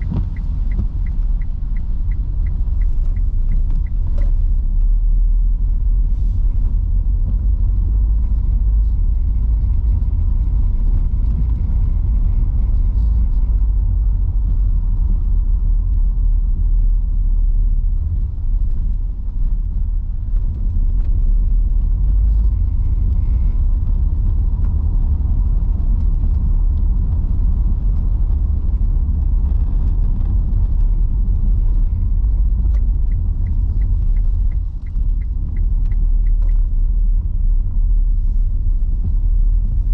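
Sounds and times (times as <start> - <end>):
tyres and road noise in car: 0.0 - 39.9.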